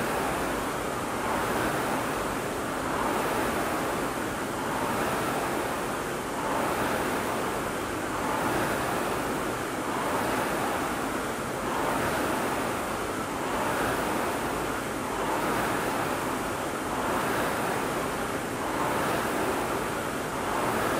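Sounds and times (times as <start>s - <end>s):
rowing machine flywheel whooshing: 0.0s - 20.9s.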